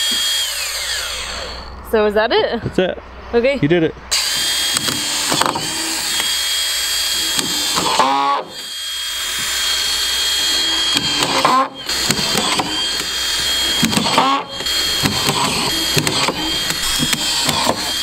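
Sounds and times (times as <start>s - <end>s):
screw gun whining: 0.0s - 1.8s, 4.1s - 18.0s.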